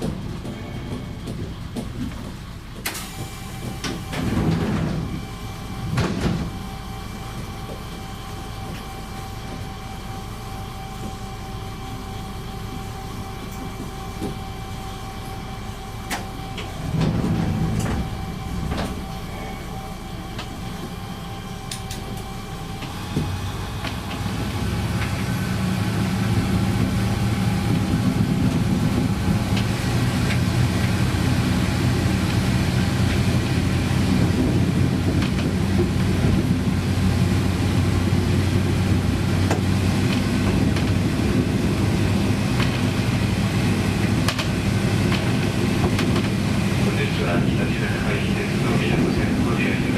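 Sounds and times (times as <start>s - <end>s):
diesel railcar engine: 0.0s - 49.9s.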